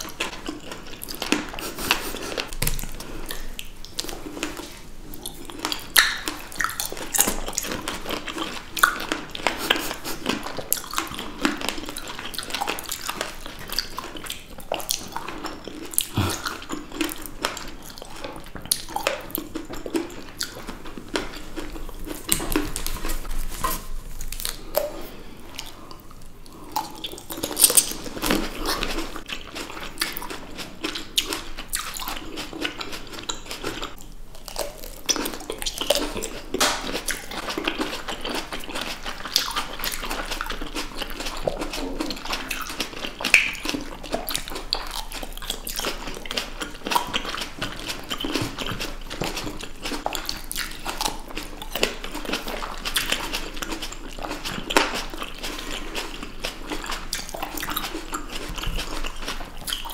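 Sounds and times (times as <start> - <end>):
people chewing grapes: 0.0 - 59.9.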